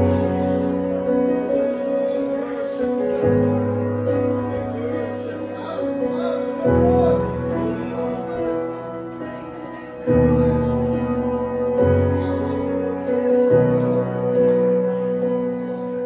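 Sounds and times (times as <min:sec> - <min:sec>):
electric keyboard playing chords: 0:00.0 - 0:16.0.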